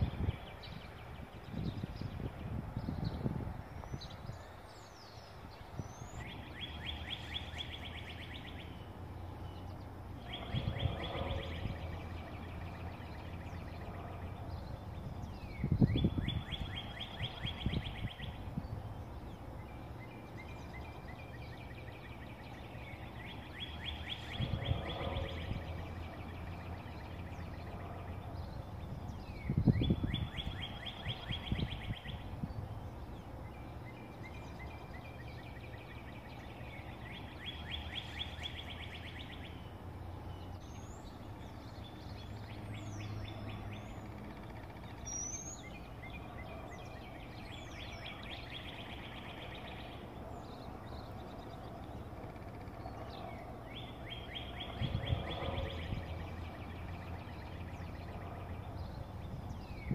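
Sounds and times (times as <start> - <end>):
birds chirping: 0.0 - 59.9
songbird trilling: 0.0 - 59.9.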